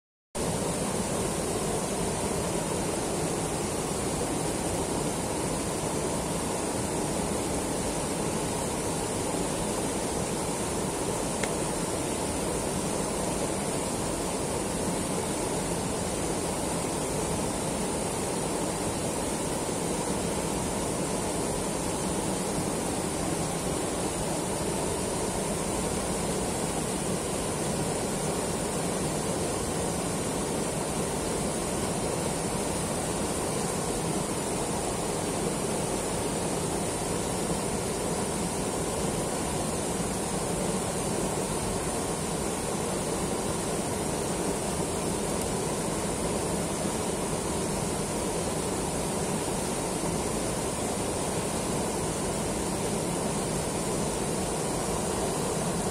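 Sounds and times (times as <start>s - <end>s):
river rushing over rocks: 0.4s - 55.9s.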